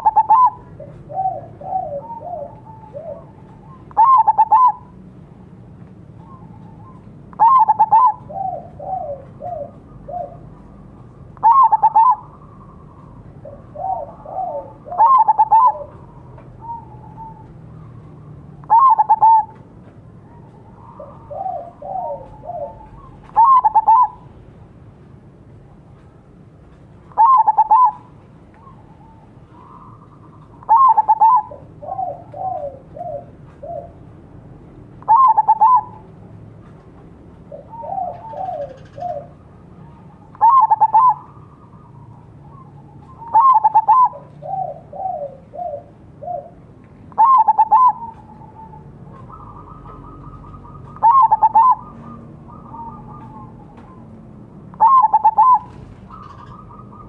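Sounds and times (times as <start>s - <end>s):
dove cooing: 0.0s - 5.1s, 6.2s - 19.6s, 20.2s - 24.4s, 27.1s - 34.2s, 35.0s - 36.1s, 37.4s - 57.0s.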